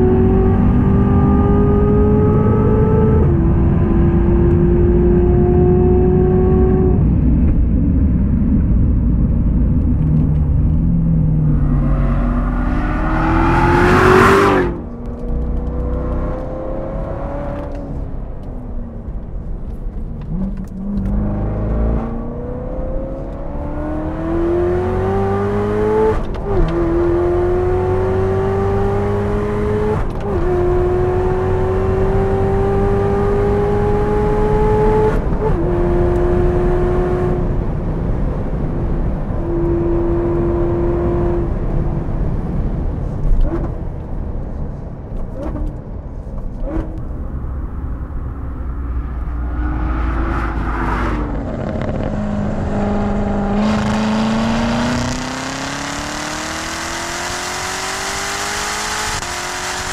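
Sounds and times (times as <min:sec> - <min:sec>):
car engine accelerating hard: 0:00.0 - 0:07.2, 0:08.9 - 0:18.5, 0:19.7 - 0:42.1, 0:46.5 - 0:59.9.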